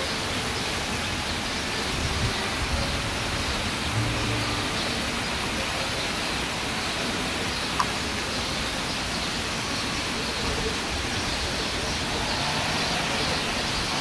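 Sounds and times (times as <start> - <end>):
fountain water splashing into pool: 0.0 - 14.0.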